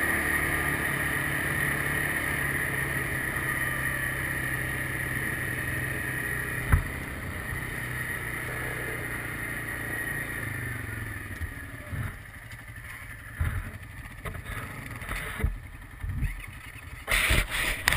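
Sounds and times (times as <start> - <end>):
quad bike engine running: 0.0 - 17.9.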